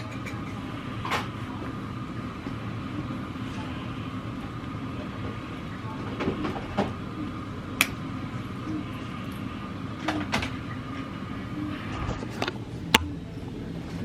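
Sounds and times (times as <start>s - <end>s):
mechanical hum with high whine: 0.0s - 14.0s.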